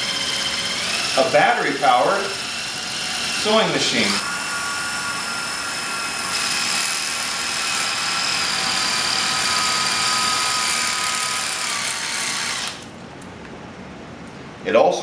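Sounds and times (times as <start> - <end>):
impact driver motor whining: 0.0 - 12.9.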